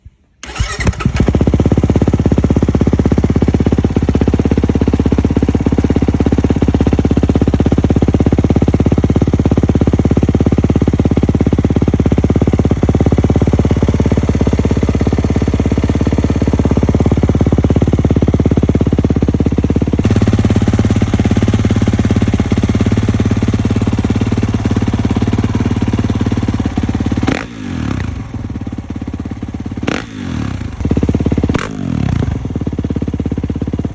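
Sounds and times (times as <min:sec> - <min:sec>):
engine throttle blips: 0:00.0 - 0:33.9
motorcycle engine idling: 0:00.0 - 0:33.9.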